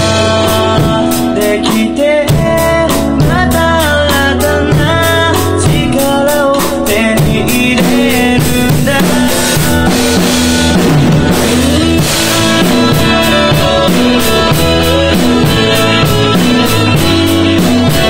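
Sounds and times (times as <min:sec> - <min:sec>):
acoustic drum kit playing: 0:00.0 - 0:18.0
rock song with guitar and vocals: 0:00.0 - 0:18.0.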